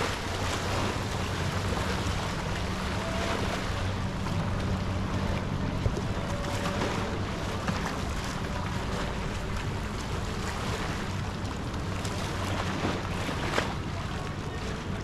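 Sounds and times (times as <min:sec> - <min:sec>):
steady low hum: 0:00.0 - 0:15.0
waves on shore: 0:00.0 - 0:15.0.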